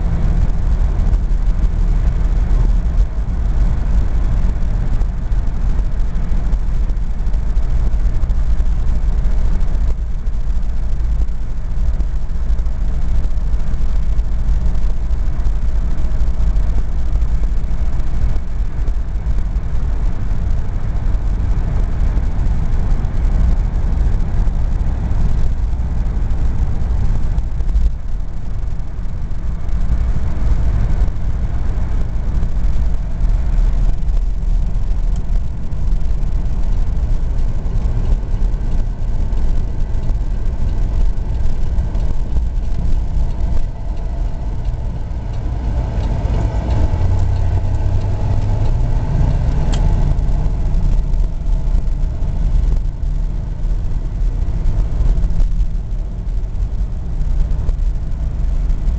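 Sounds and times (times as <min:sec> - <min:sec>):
car engine rumble from inside cabin: 0:00.0 - 0:58.9.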